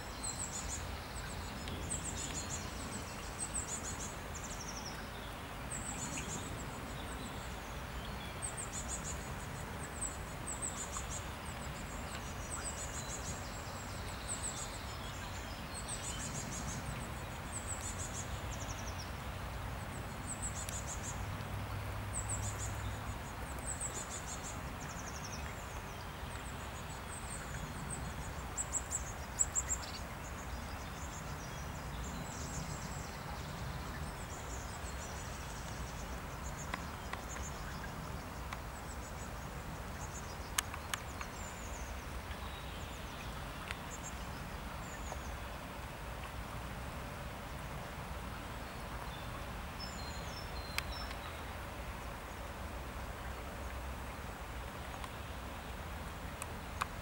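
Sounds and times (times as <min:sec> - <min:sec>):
light rain hissing: 0:00.0 - 0:57.0.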